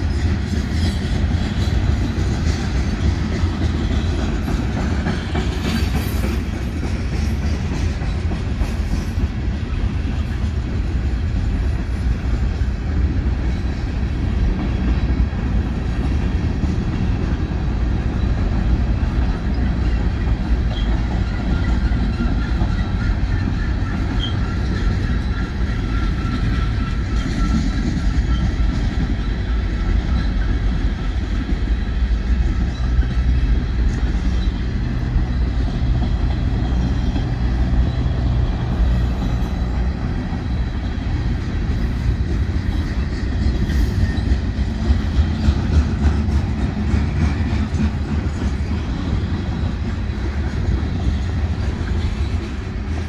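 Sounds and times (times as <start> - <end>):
freight cars rumbling on rails: 0.0 - 53.0.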